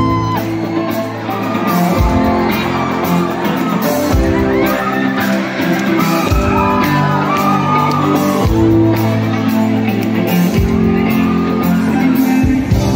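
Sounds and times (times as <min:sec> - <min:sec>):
rock band playing: 0:00.0 - 0:12.9.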